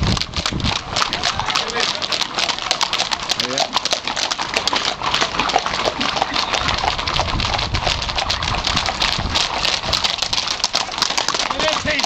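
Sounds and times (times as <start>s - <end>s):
horse hooves trotting on road: 0.0s - 12.0s.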